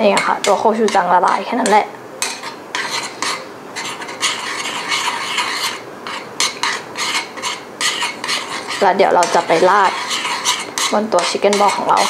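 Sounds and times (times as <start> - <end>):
spoon scraping frying pan: 0.0 - 12.0.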